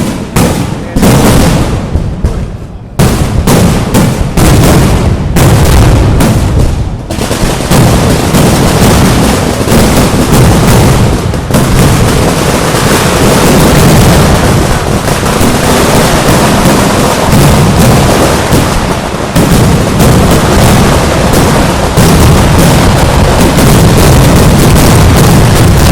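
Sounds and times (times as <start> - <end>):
firecracker bangs barrage: 0.0 - 25.9.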